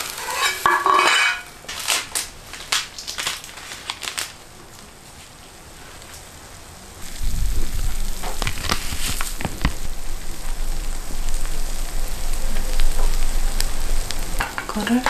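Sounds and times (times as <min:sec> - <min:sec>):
fish sizzling in a frying pan: 0:00.0 - 0:04.4, 0:05.9 - 0:15.0.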